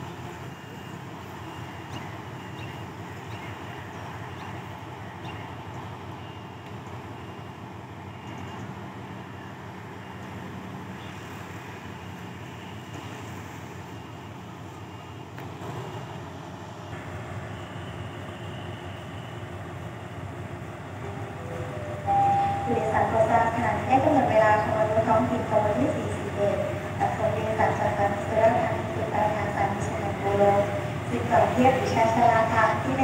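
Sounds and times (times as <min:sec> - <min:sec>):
diesel locomotive engine humming: 0:00.0 - 0:33.0.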